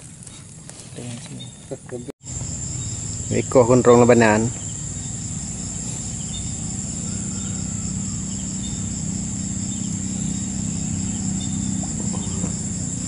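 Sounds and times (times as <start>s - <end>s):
crickets droning: 0.0s - 13.0s
low steady hum: 0.0s - 13.0s.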